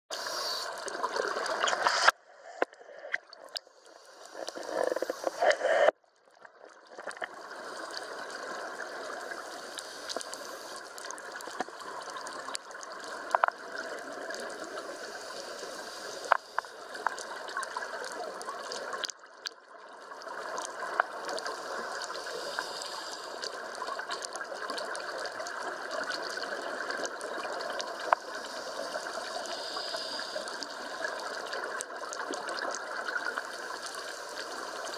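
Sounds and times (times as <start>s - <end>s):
scuba bubbles: 0.1s - 34.9s
underwater gurgling: 0.1s - 34.9s.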